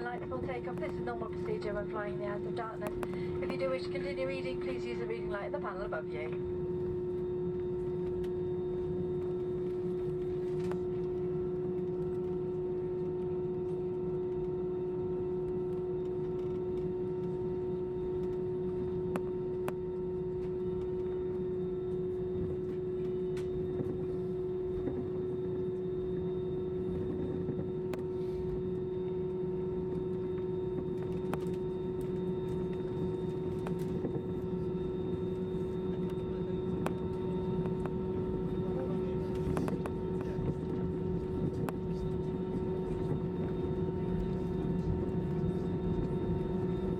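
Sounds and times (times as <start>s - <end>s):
aircraft engines droning: 0.0s - 46.9s
constant hum tone: 0.0s - 46.9s.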